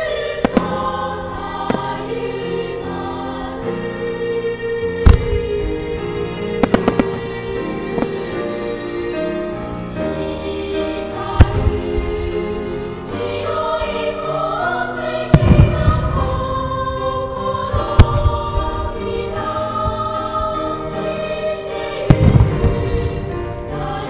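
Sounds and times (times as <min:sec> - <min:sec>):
fireworks bursting: 0:00.0 - 0:03.3, 0:05.0 - 0:09.6, 0:11.0 - 0:14.1, 0:15.2 - 0:24.0
choir-like music: 0:00.0 - 0:24.0.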